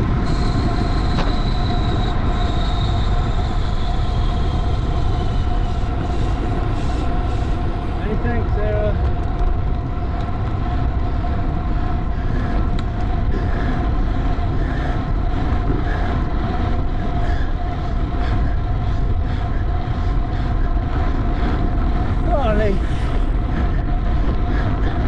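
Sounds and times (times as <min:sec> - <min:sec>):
constant hum: 0:00.0 - 0:25.0
wind rushing: 0:00.0 - 0:25.0.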